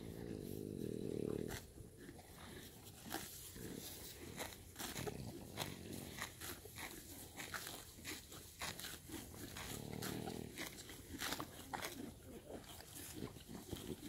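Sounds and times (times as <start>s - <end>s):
horse chewing grass: 0.0s - 14.0s.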